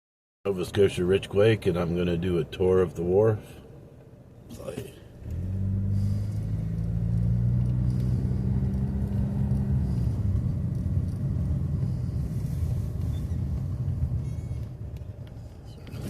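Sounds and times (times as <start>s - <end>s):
car engine humming: 0.5s - 16.0s.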